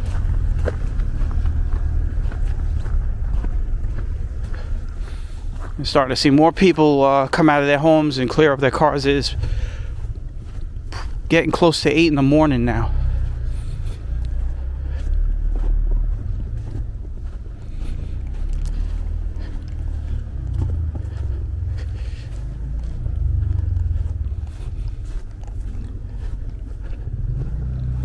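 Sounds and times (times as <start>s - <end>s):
footsteps crunching in snow: 0.0s - 28.0s
steady low rumble: 0.0s - 28.0s.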